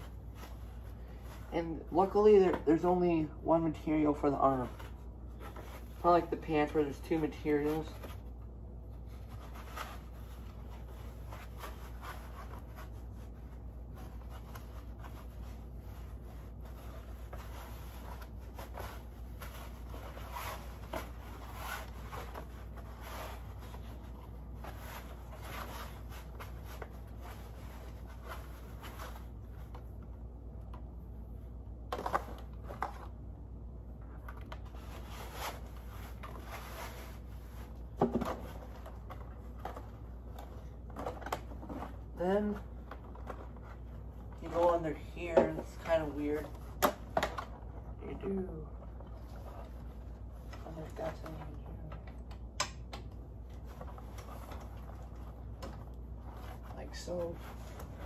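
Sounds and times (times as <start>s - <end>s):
cloth rustling and scraping: 0.0s - 30.3s, 34.0s - 46.8s, 53.3s - 58.0s
steady low hum: 0.0s - 58.0s.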